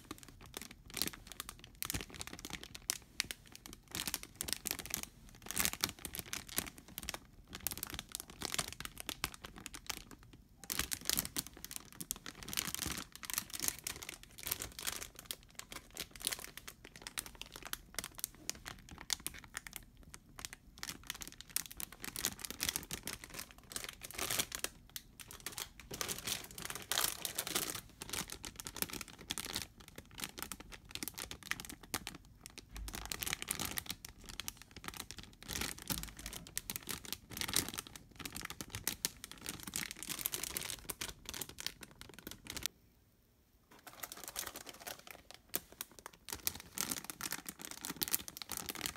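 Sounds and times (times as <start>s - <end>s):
plastic bags crinkling: 0.0s - 42.7s, 43.7s - 48.9s.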